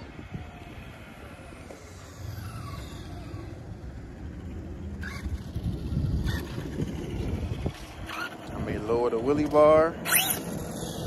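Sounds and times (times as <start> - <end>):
toy truck driving on concrete: 0.0 - 11.0.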